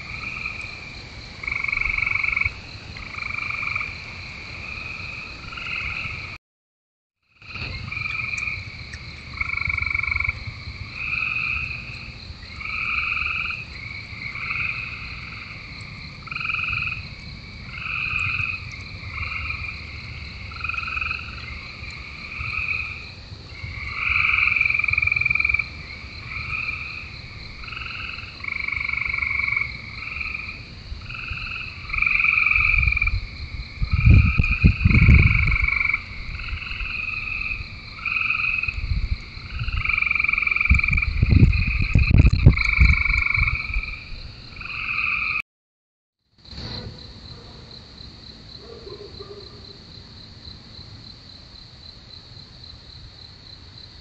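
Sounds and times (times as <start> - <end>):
frogs trilling: 0.0 - 6.4, 7.3 - 45.4.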